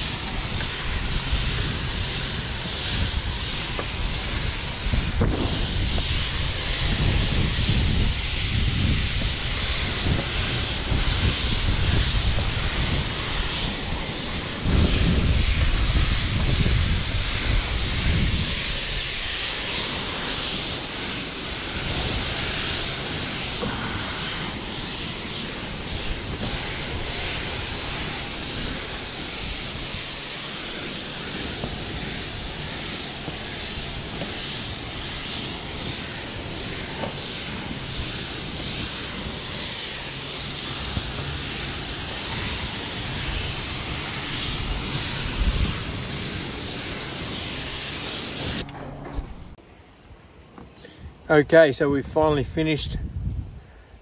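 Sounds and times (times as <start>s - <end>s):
spray gun hissing: 0.0s - 48.7s.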